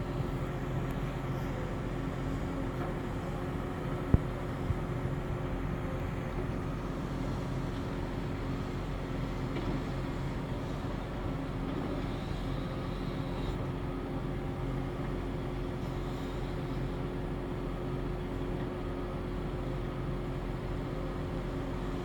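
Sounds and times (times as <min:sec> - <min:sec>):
heavy diesel machinery drone: 0:00.0 - 0:22.0.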